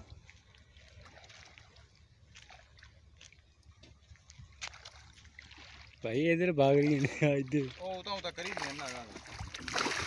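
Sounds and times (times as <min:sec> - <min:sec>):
water sloshing: 0:00.0 - 0:10.0.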